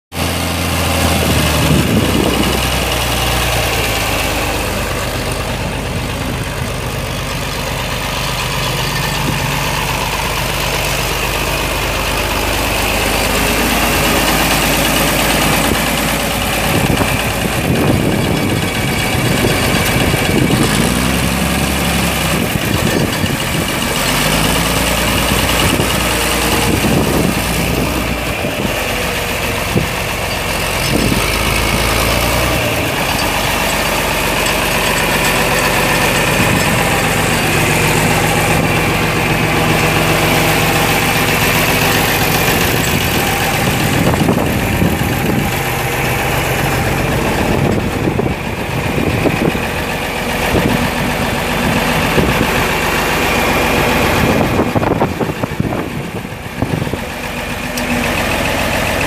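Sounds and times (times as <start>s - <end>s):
tractor diesel engine idling: 0.1s - 59.0s.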